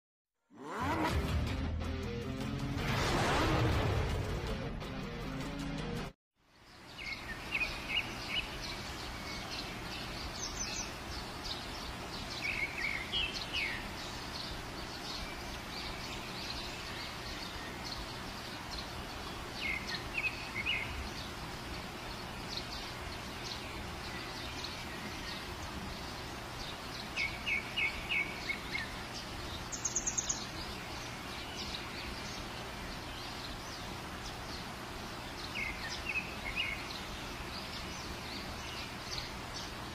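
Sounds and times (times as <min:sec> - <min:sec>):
small birds chirping: 0:06.5 - 0:39.9
rushing water: 0:06.8 - 0:39.9.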